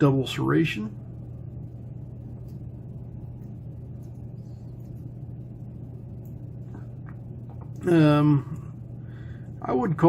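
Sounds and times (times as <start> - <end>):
steady low hum: 0.0 - 10.0
low rumble: 0.9 - 9.6.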